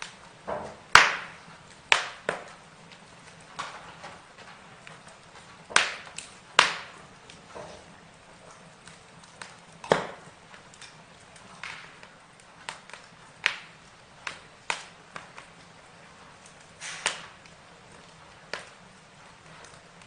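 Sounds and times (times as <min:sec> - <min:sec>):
burning wood crackling: 0:00.0 - 0:20.0.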